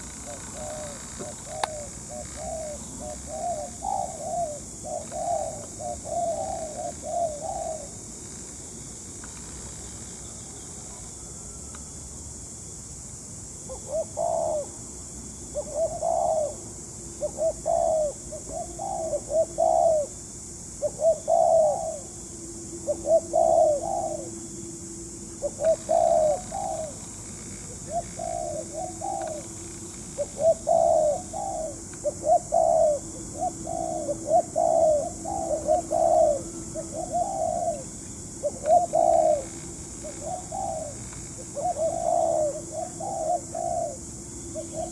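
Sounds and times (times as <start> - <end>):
dove cooing: 0.0 - 8.0, 13.7 - 14.8, 15.5 - 16.6, 17.2 - 20.2, 20.8 - 22.2, 22.8 - 24.6, 25.4 - 44.9.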